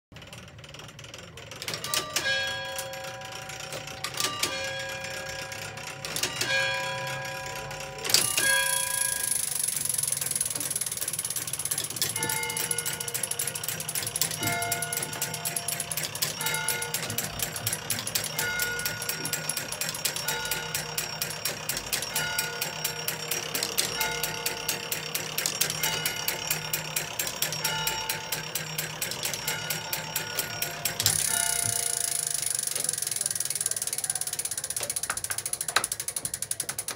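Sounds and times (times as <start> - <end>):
clock gears ratchet clicking: 0.2 - 36.9.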